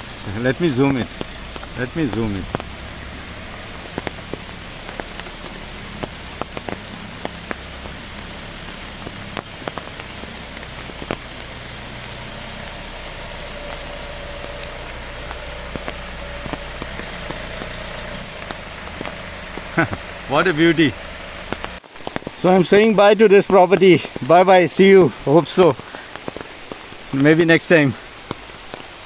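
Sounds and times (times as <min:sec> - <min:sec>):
raindrops ticking on surfaces: 0:00.0 - 0:29.0
steady rain: 0:00.0 - 0:29.0.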